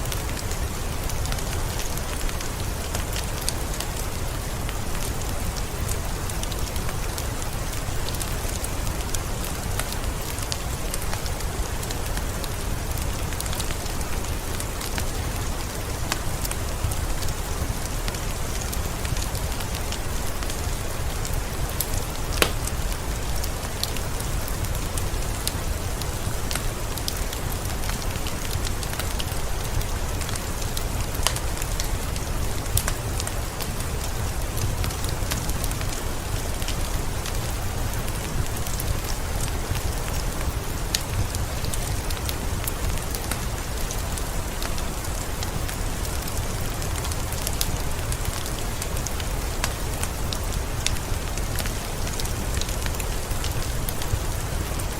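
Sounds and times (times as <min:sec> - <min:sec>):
steady rain: 0:00.0 - 0:54.9
wood fire crackling and popping: 0:00.1 - 0:54.9.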